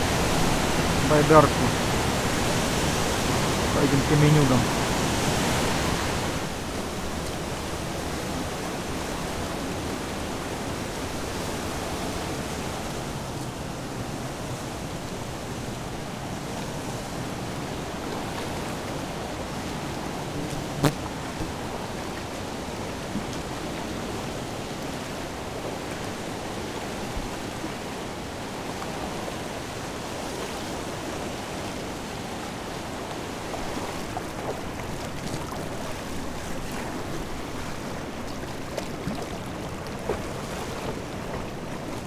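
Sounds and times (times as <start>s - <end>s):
river rapids rushing over rocks: 0.0s - 42.0s.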